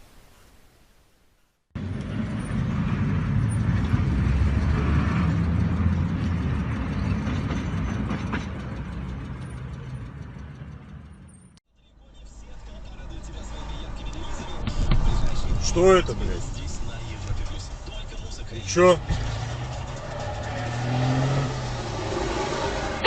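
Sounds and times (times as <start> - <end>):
vehicle engine and road rumble: 1.8 - 23.0.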